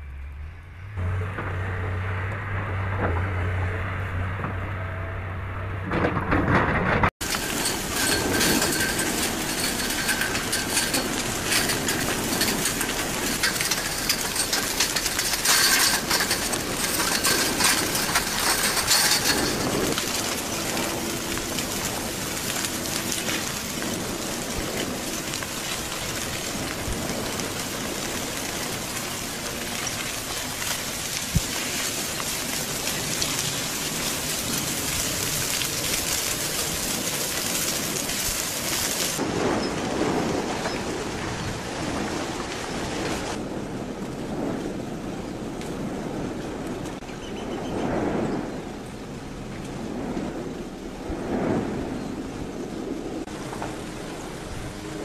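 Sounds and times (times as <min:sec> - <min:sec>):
lava flow crackling and clinking: 0:05.8 - 0:55.0.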